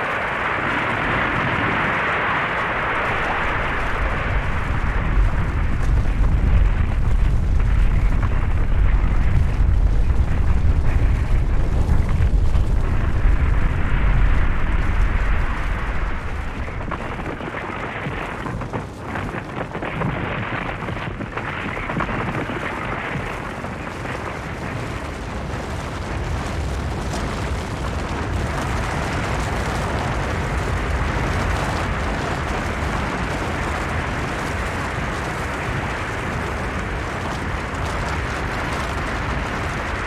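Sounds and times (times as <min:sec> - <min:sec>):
avalanche snow rumbling: 0:00.0 - 0:40.0.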